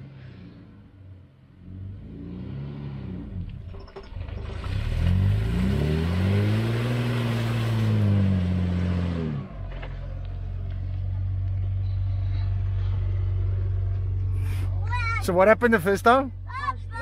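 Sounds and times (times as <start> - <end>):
engine revving under load: 0.0 - 15.0
tyres churning through mud: 2.1 - 16.2.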